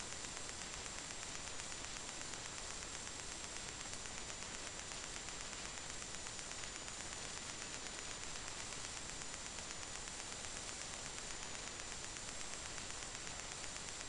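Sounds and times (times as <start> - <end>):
electronic hiss: 0.0 - 14.0
faint high-pitched whine: 0.0 - 14.0.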